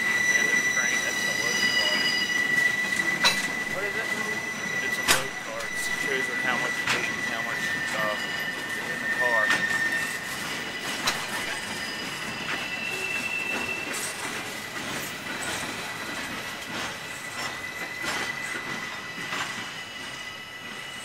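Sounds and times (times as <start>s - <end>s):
train cars clacking over rail joints: 0.0s - 20.2s
high-pitched squeal: 0.0s - 21.0s.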